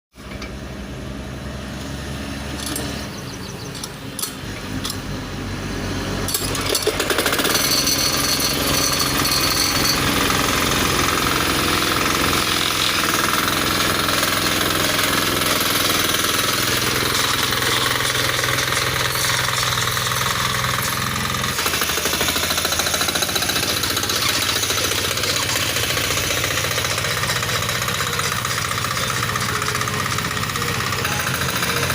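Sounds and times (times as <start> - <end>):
tiller engine knocking: 6.3 - 31.9.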